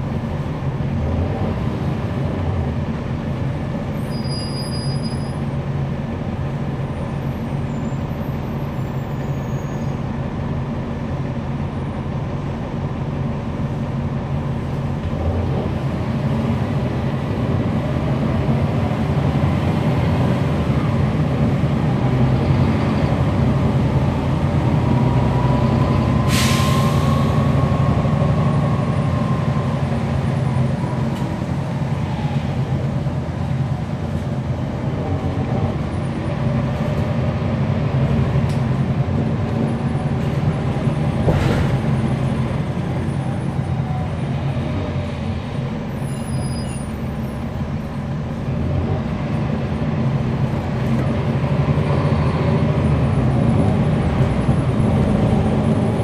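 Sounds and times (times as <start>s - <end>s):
bus engine humming: 0.0s - 56.0s.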